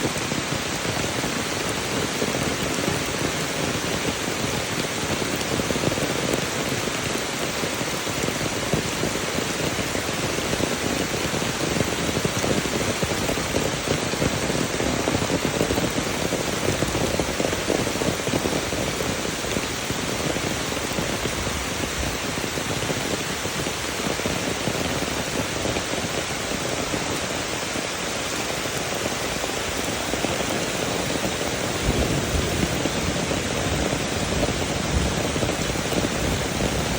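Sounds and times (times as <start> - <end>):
steady hiss of water: 0.0 - 36.9.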